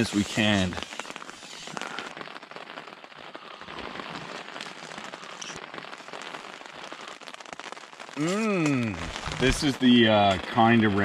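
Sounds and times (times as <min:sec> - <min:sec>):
rain pattering on tent fabric: 0:00.0 - 0:11.0.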